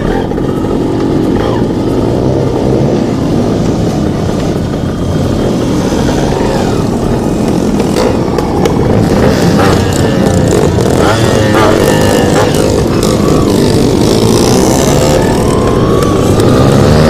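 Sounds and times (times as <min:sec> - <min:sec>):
two-stroke motorbike engine revving: 0:00.0 - 0:17.0.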